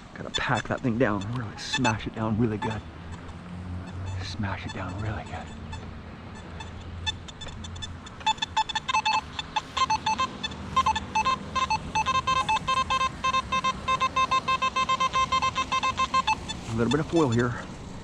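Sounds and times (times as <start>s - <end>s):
metal detector beeps: 0.2s - 17.6s.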